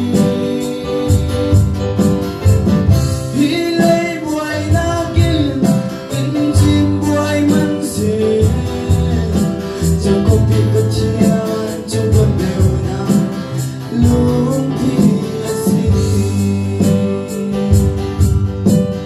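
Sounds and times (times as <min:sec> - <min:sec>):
man singing gospel song: 0:00.0 - 0:02.0, 0:03.2 - 0:18.3
amplified instrumental accompaniment: 0:00.0 - 0:19.0.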